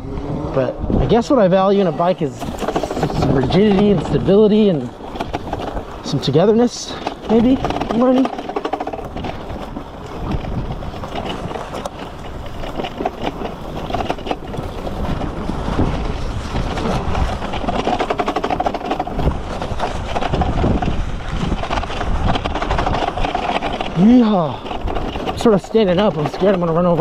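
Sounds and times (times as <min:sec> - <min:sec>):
dirt bike rattling over bumps: 0:00.0 - 0:27.0
tyre and wind rumble: 0:00.0 - 0:27.0.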